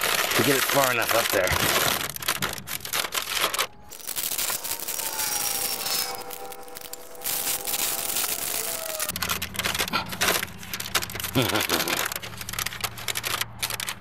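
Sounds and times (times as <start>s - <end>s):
stiff paper crinkling: 0.0s - 14.0s.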